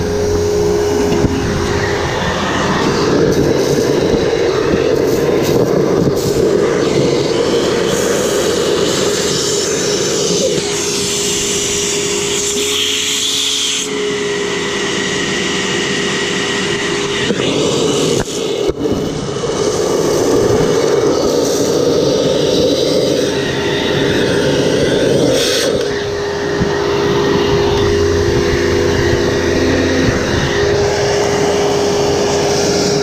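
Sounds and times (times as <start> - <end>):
steady held tone: 0.0 - 33.0
vacuum cleaner running: 0.0 - 33.0.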